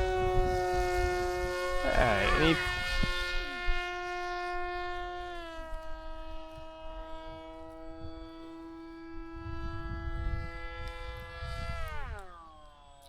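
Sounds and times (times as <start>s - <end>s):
wind rumbling on microphone: 0.0s - 12.4s
electric motor whining: 0.0s - 13.0s.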